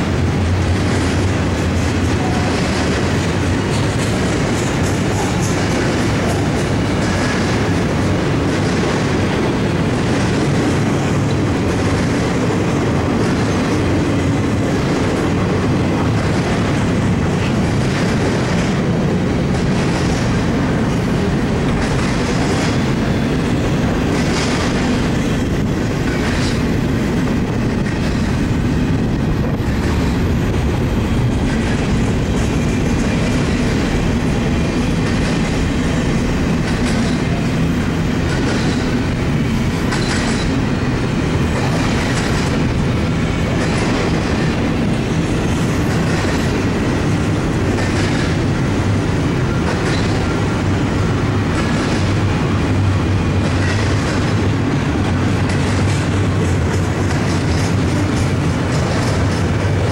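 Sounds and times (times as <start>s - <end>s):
wheels clacking over rail joints: 0.0s - 59.9s.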